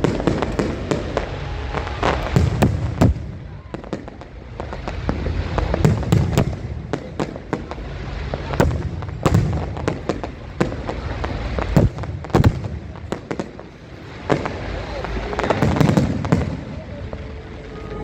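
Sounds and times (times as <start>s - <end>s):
constant low rumble: 0.0s - 18.0s
firework bangs and crackling: 0.0s - 18.0s.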